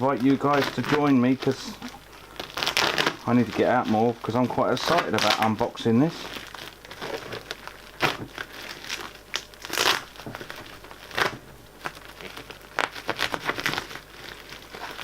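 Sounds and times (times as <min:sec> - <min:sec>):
plastic wrap crinkling and tearing: 0:00.0 - 0:15.0.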